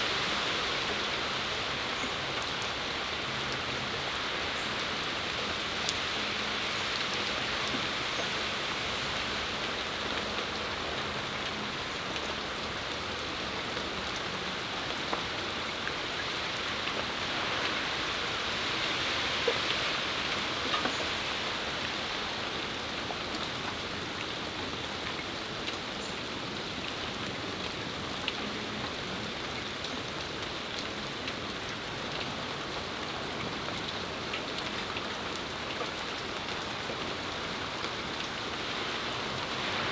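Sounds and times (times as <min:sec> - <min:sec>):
rain hissing on a patio: 0:00.0 - 0:39.9.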